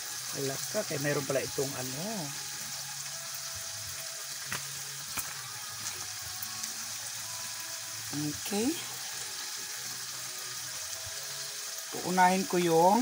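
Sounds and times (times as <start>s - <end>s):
meat and onions sizzling in pan: 0.0s - 13.0s.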